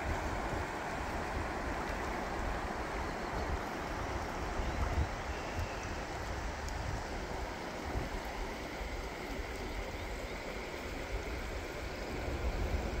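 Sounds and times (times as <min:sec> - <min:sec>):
wind gusting on microphone: 0:00.0 - 0:09.9, 0:10.8 - 0:13.0
river rushing: 0:00.0 - 0:13.0.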